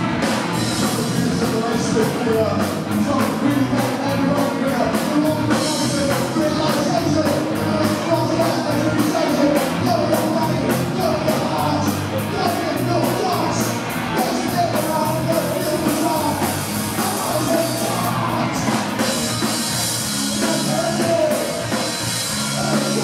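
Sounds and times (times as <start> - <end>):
punk rock band playing: 0.0 - 23.0
singer shouting: 0.8 - 23.0.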